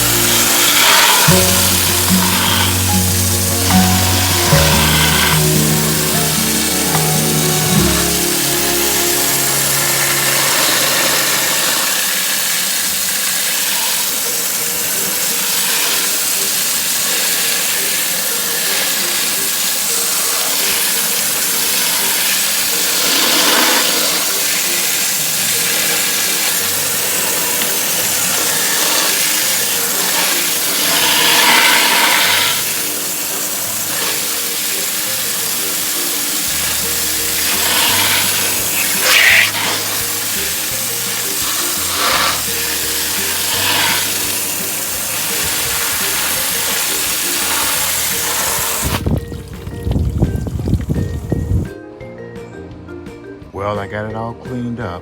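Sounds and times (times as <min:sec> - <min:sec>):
loud steady hissing: 0:00.0 - 0:49.1
soft background music: 0:00.0 - 0:55.0.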